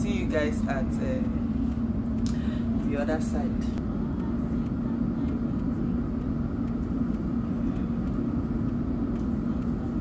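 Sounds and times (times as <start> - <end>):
constant pitched hum: 0.0 - 10.0
train carriage rumble and hum: 0.0 - 10.0.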